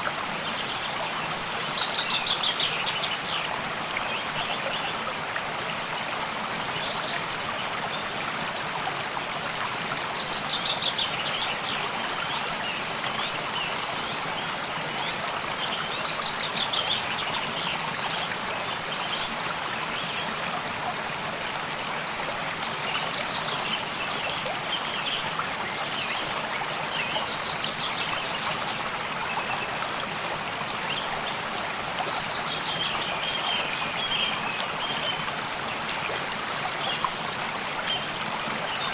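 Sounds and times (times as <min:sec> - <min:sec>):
small stream running: 0:00.0 - 0:38.9.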